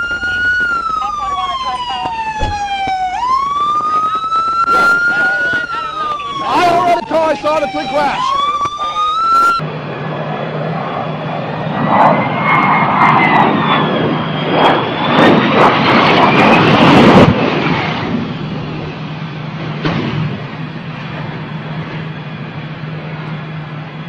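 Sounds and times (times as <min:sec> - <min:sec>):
aircraft engine whine: 0:00.0 - 0:24.0.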